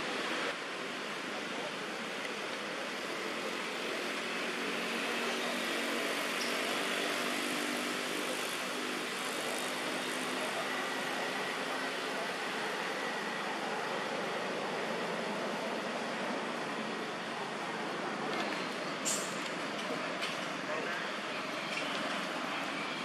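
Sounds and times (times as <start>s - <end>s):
faint low engine drone: 0.0s - 23.0s
steady outdoor hiss: 0.0s - 23.0s.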